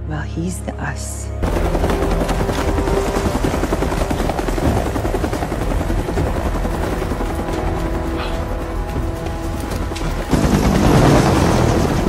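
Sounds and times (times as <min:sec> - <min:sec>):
helicopter rotor beating: 0:01.4 - 0:12.0
turbine engine droning: 0:01.4 - 0:12.0.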